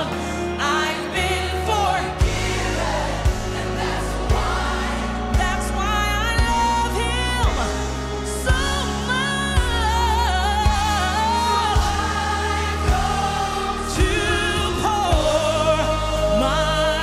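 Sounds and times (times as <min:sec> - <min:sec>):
choir singing: 0:00.0 - 0:17.0
lead singer singing: 0:00.0 - 0:17.0
steady bass: 0:00.0 - 0:17.0.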